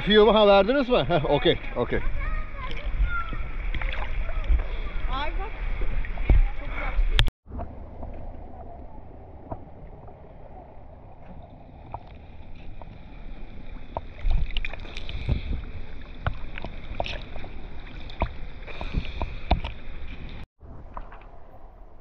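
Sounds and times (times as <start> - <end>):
boat motor: 0.0 - 20.4
water noise: 0.0 - 22.0.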